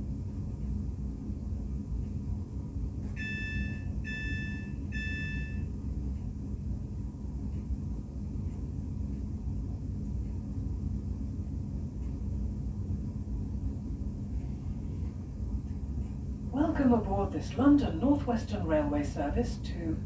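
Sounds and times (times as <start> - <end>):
train carriage hum and rumble: 0.0 - 20.0.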